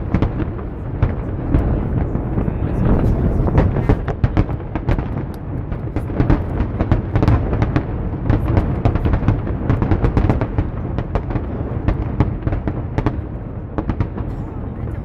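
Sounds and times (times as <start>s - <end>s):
fireworks bangs and crackles: 0.0s - 15.0s
low rumble of booms: 0.0s - 15.0s.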